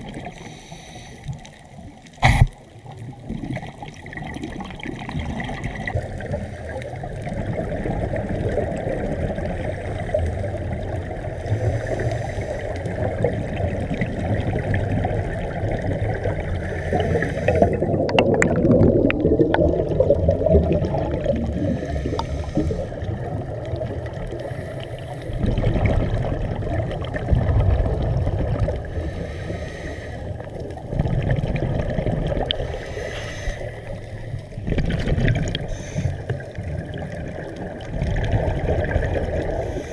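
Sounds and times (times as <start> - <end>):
water sloshing and gurgling: 0.0 - 39.9.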